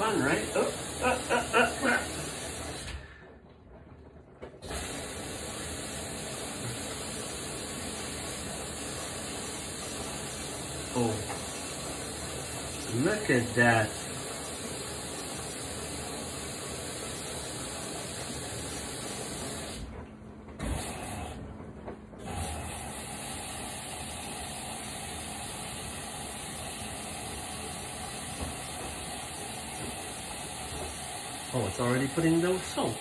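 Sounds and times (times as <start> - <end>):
water hissing into washing machine: 0.0 - 33.0.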